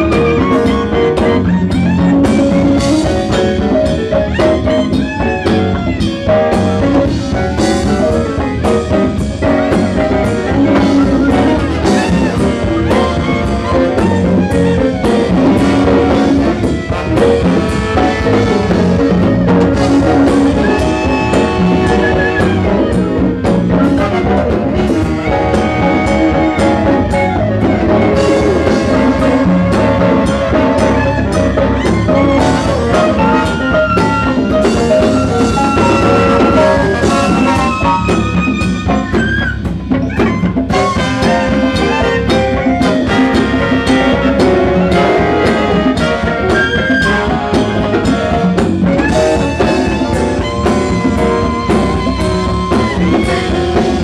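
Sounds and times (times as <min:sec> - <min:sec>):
drum kit: 0:00.0 - 0:54.0
jazz horn section: 0:00.0 - 0:54.0.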